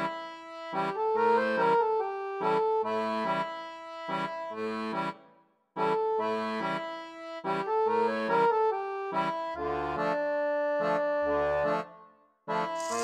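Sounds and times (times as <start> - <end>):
accordion instrumental tune: 0.0 - 13.0.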